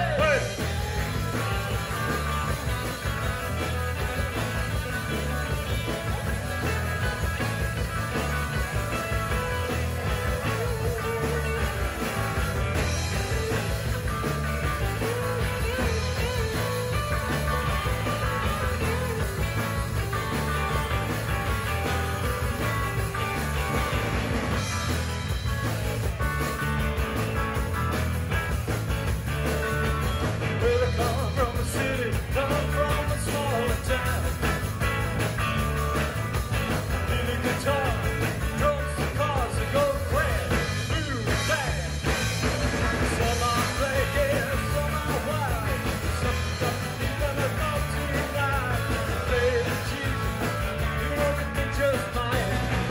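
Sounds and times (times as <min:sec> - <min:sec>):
drum kit: 0:00.0 - 0:52.9
electric bass: 0:00.0 - 0:52.9
electric guitars: 0:00.0 - 0:52.9.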